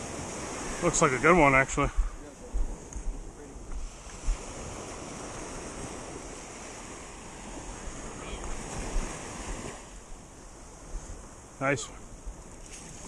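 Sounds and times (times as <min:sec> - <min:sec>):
ocean surf on beach: 0:00.0 - 0:13.0
wind rumbling on microphone: 0:00.0 - 0:13.0.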